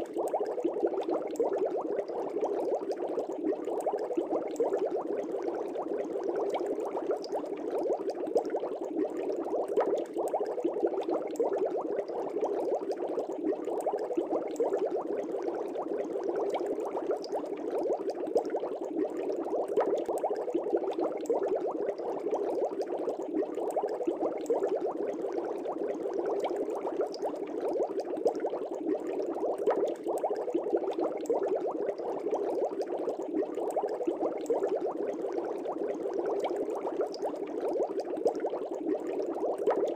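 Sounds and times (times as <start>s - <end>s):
air bubbles in fish tank: 0.0s - 39.9s.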